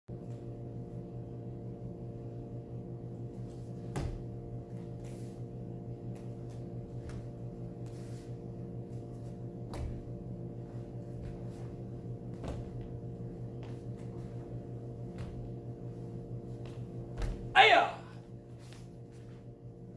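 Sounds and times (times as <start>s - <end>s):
steady room hum: 0.1s - 19.9s.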